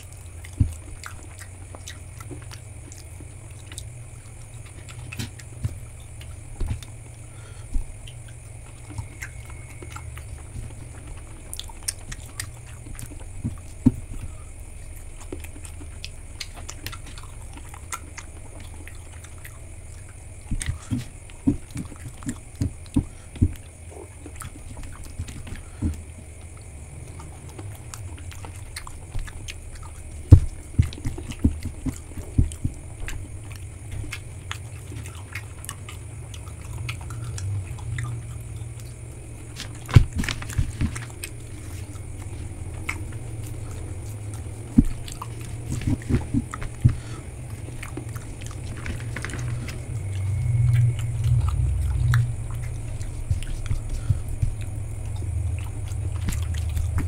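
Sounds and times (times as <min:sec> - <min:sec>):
chewing and biting food: 0:00.0 - 0:57.0
steady low hum: 0:00.0 - 0:57.0
wet mouth clicks: 0:00.0 - 0:57.0.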